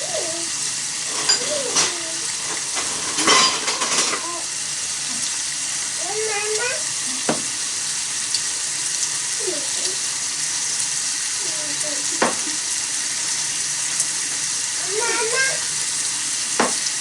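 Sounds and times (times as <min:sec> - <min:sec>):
food sizzling in iron pot: 0:00.0 - 0:17.0.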